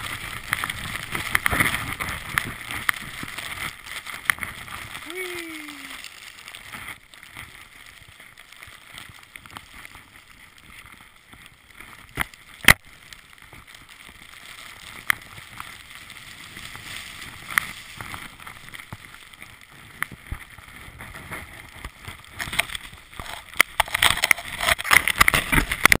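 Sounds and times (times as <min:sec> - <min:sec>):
skis hissing through powder snow: 0:00.0 - 0:23.3.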